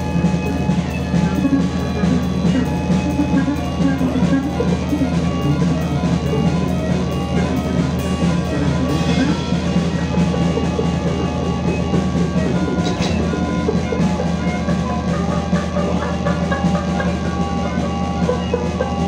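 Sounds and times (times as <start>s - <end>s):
busy drumming: 0.0s - 19.0s
low bass drone: 0.0s - 19.0s
sustained synth tones: 0.0s - 19.0s.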